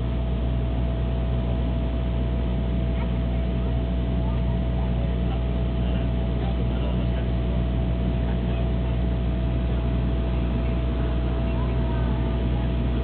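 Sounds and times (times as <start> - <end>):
turboprop engines droning in cabin: 0.0 - 13.0.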